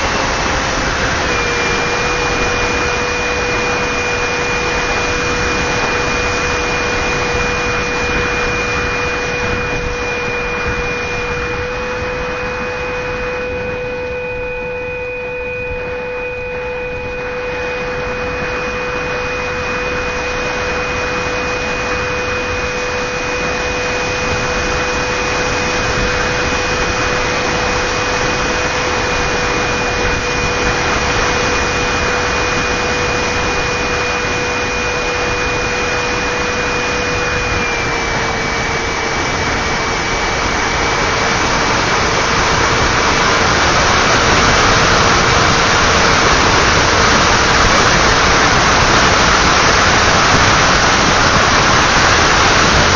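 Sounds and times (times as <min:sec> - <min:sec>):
wind noise hiss: 0:00.0 - 0:14.9, 0:15.6 - 0:52.9
electric motor whine: 0:00.0 - 0:52.9.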